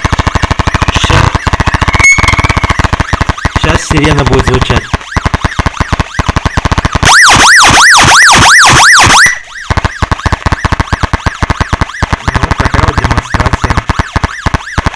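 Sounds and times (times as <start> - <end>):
electronic siren rising and falling: 0.0 - 14.9.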